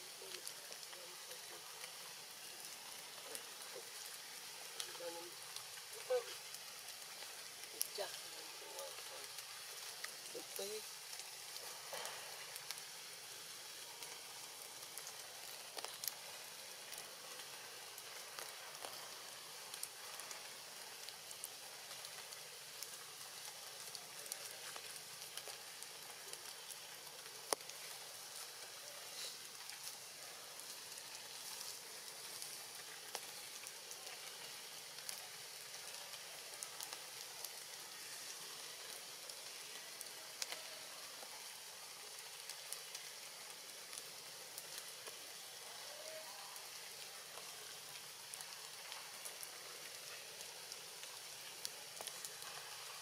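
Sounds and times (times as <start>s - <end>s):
rain hissing on foliage: 0.0s - 53.0s
small drip ticks: 0.1s - 53.0s.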